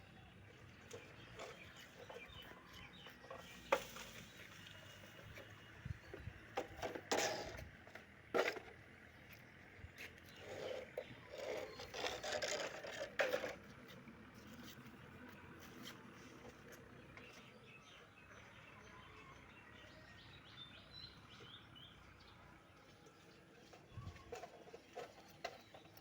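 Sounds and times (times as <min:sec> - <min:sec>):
small birds chirping: 0:00.0 - 0:06.6, 0:09.1 - 0:12.9, 0:14.3 - 0:26.0.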